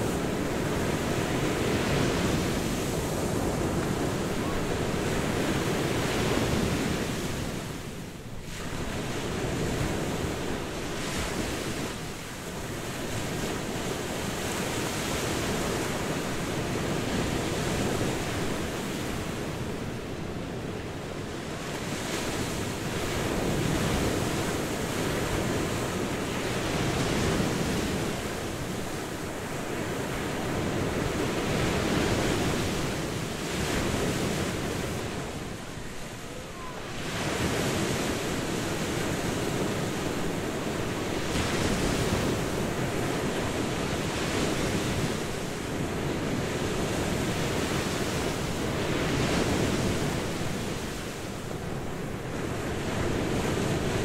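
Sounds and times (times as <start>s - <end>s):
sea surf washing up on beach: 0.0s - 54.0s.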